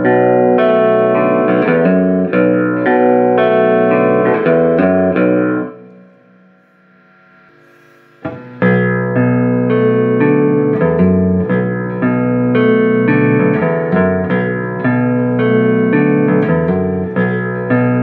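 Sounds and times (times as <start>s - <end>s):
electric guitar playing: 0.0s - 18.0s
guitar strum: 0.0s - 18.0s.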